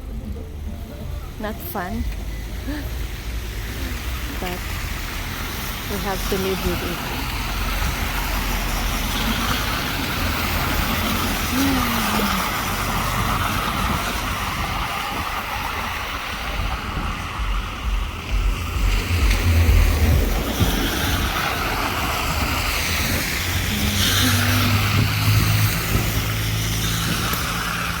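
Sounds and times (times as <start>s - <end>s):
cars running along road: 0.0s - 28.0s
low rumble: 0.0s - 28.0s.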